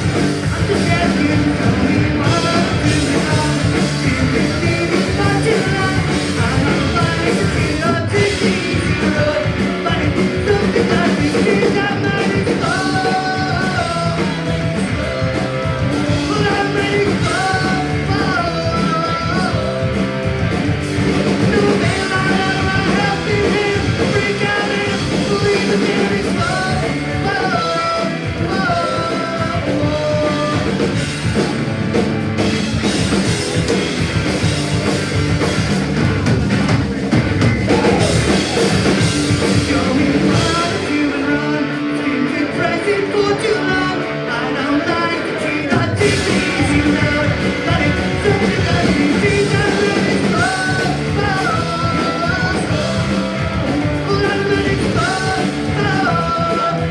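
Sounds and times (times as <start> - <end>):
lead vocal singing: 0.0 - 31.7, 37.4 - 56.9
bass guitar: 0.0 - 56.9
distorted electric guitars: 0.0 - 56.9
drum kit: 0.0 - 56.9.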